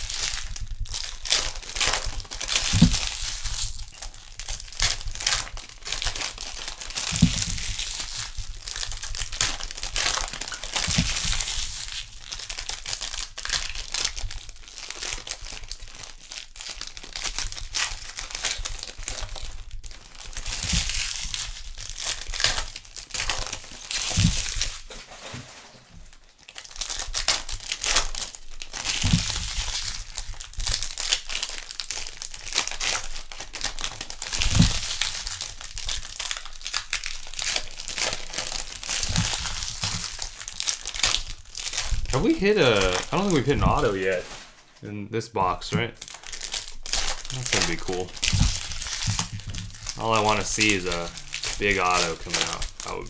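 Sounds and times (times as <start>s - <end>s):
card wrappers tearing and crinkling: 0.0s - 44.8s, 45.4s - 53.0s.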